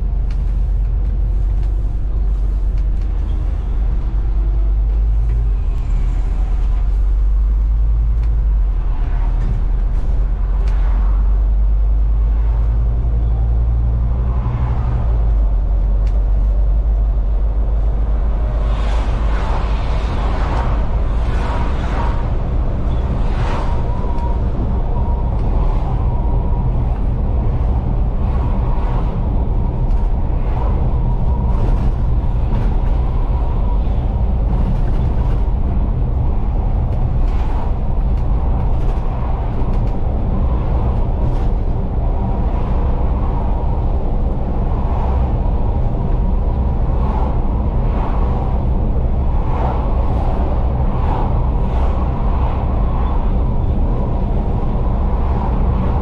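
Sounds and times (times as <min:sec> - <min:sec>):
bus engine and tyre rumble: 0:00.0 - 0:56.0.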